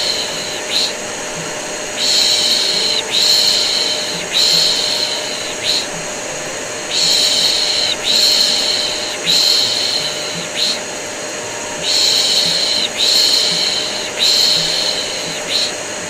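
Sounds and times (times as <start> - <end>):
vacuum cleaner motor drone: 0.0 - 16.0.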